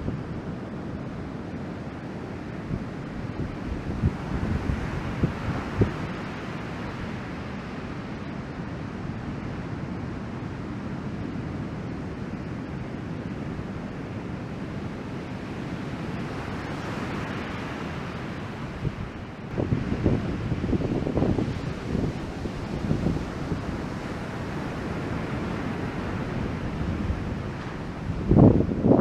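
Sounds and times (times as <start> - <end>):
wind buffeting microphone: 0.0 - 9.2, 10.1 - 29.0
waves breaking: 0.3 - 29.0.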